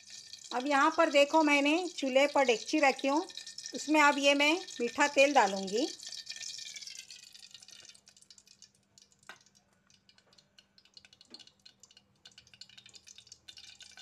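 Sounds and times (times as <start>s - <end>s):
oil crackling in a pot: 0.0s - 14.0s.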